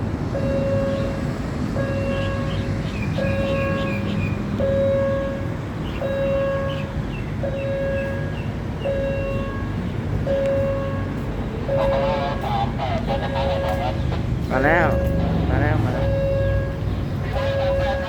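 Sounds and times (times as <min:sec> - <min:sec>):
low traffic rumble: 0:00.0 - 0:18.0
level crossing warning tone: 0:00.3 - 0:18.0.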